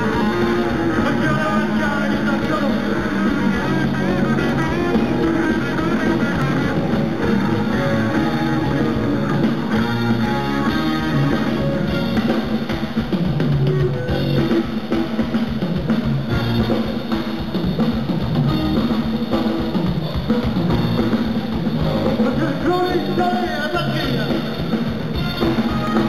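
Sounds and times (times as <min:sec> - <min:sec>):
drum kit: 0:00.0 - 0:26.0
electric guitars: 0:00.0 - 0:26.0
live rock band playing: 0:00.0 - 0:26.0.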